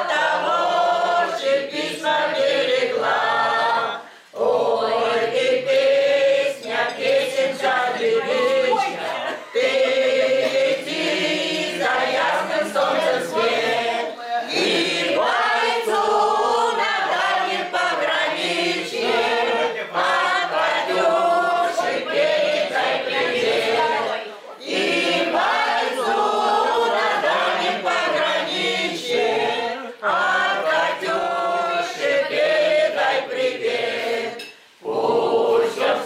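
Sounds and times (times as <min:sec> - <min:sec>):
choir singing: 0:00.0 - 0:36.0.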